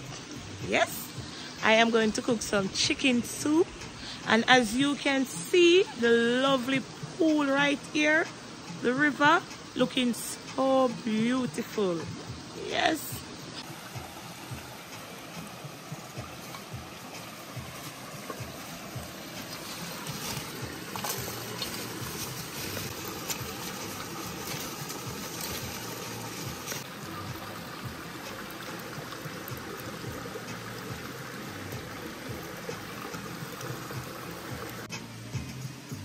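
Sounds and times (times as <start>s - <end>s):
stream flowing over rocks: 0.0s - 36.0s.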